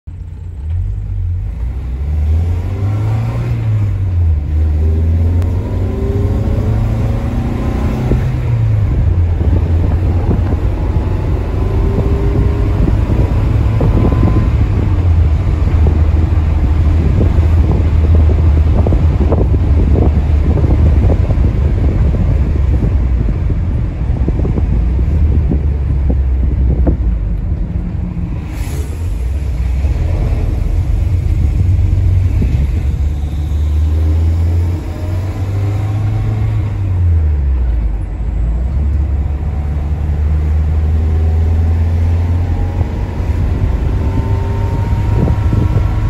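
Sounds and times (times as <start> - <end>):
car engine accelerating: 0.1 - 46.0
road and wind noise: 0.1 - 46.0.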